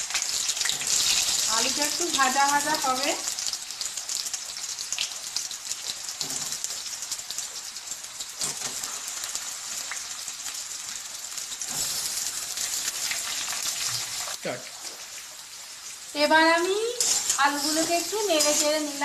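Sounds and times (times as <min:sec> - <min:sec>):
potatoes sizzling in a pan: 0:00.0 - 0:19.0.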